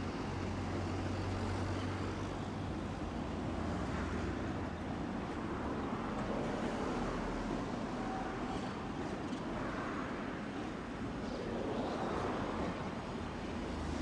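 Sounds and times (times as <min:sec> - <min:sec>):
streetcar running rumble: 0:00.0 - 0:14.0.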